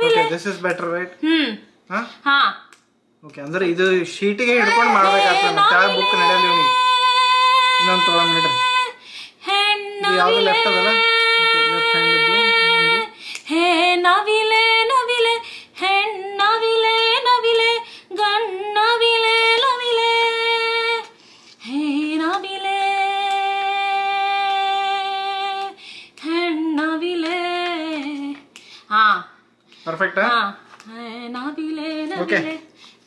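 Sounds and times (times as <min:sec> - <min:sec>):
woman singing unaccompanied: 0:00.0 - 0:00.4, 0:04.8 - 0:29.2, 0:30.3 - 0:32.8.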